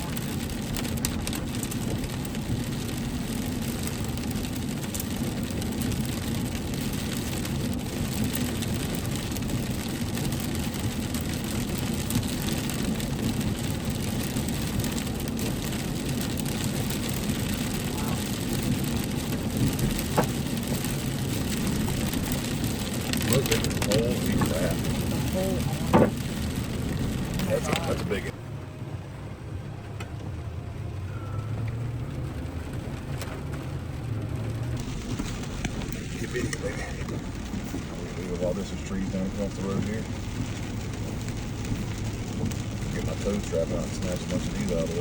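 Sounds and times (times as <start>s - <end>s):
vehicle engine and tyres rumbling: 0.0s - 45.0s.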